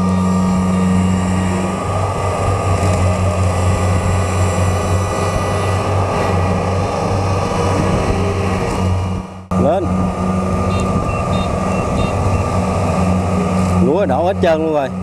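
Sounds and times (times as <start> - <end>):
diesel engine straining under load: 0.0 - 15.0.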